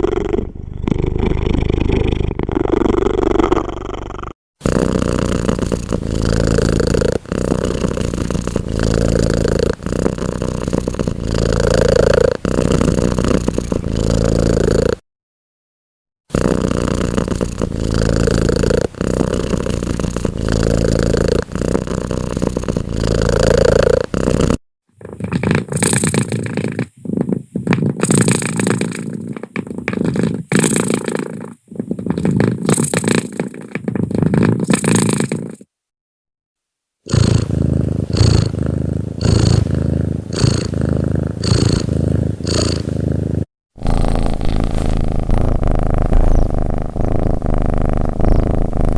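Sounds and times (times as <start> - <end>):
cat purring: 0.0 - 15.0, 16.3 - 35.7, 37.1 - 48.9.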